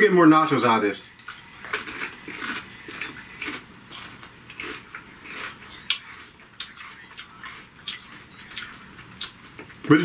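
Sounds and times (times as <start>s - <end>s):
chewing crisps: 1.2s - 10.0s.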